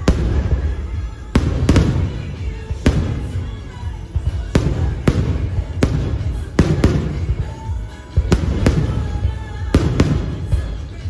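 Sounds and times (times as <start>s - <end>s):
firework bangs: 0.0s - 11.0s
music: 0.0s - 11.0s.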